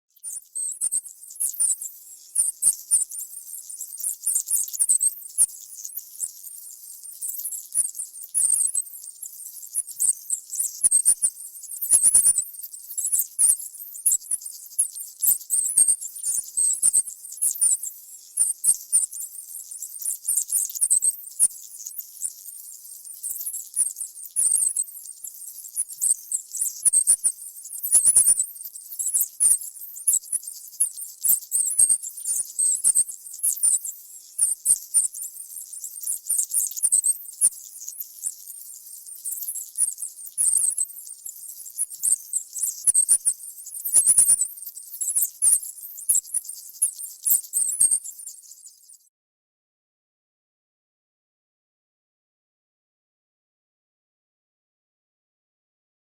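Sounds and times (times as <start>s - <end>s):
faint ticks and scratches: 0.1s - 49.1s.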